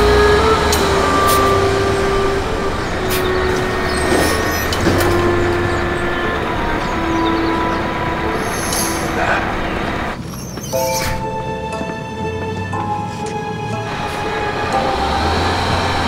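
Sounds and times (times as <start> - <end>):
low train rumble: 0.0 - 16.0
wheel and carriage clicks: 0.0 - 16.0.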